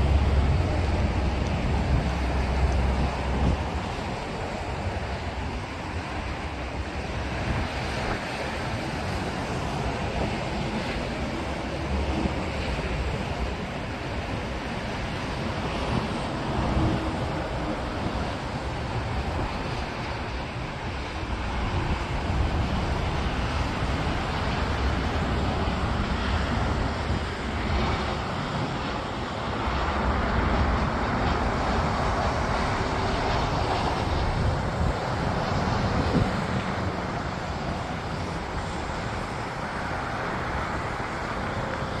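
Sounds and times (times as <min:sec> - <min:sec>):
jet engine roar: 0:00.0 - 0:42.0.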